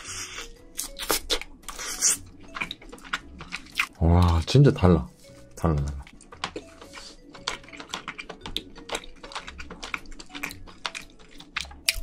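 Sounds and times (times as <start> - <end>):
chewing soft food: 0.0 - 12.0.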